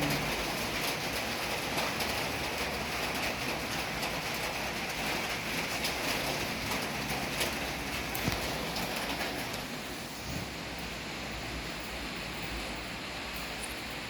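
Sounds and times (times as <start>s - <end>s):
raindrops ticking: 0.0s - 9.8s, 11.8s - 14.0s
light rain falling: 0.0s - 14.0s.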